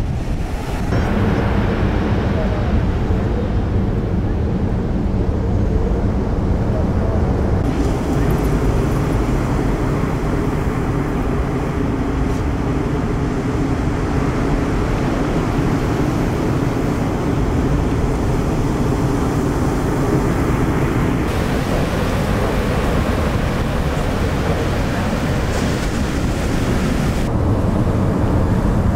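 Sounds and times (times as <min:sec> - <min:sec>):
heavy surf breaking: 0:00.0 - 0:28.9.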